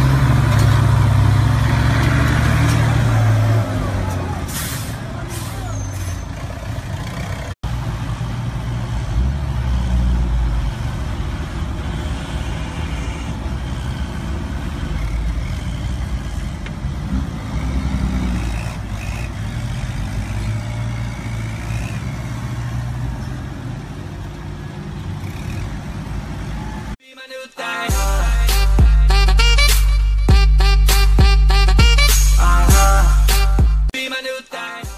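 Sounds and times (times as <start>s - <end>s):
diesel engines running under load: 0.0s - 27.0s, 28.0s - 33.9s.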